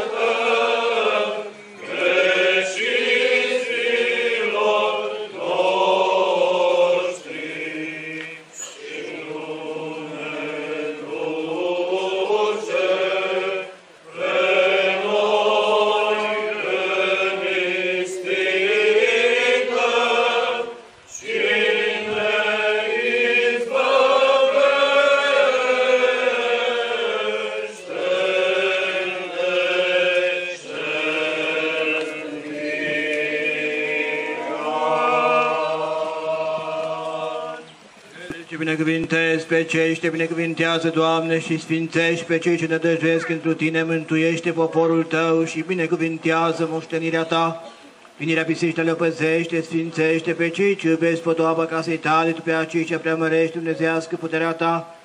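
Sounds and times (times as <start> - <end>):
voices singing liturgical chant: 0.0 - 55.0.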